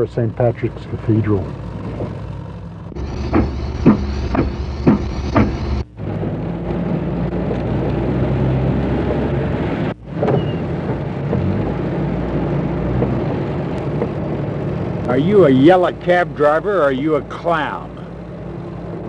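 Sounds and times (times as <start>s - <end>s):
car engine running: 0.0s - 19.0s
traffic: 0.0s - 19.0s.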